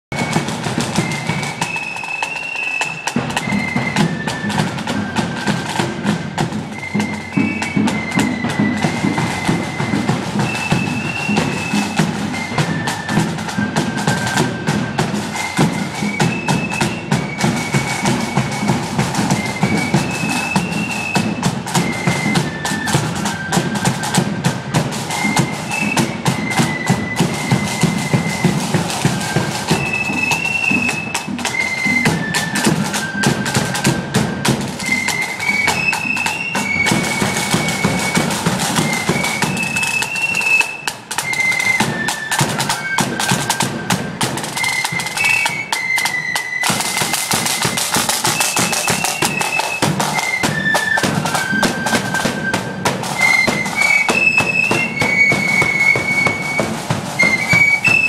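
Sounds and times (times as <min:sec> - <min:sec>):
flute tune: 0:00.1 - 0:58.0
snare and bass drums: 0:00.1 - 0:58.0.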